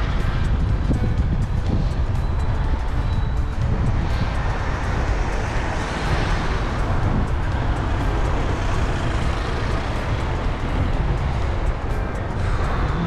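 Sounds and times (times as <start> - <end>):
heavy low rumble: 0.0 - 13.0
passing vehicle: 0.0 - 13.0
road traffic driving: 0.0 - 13.0.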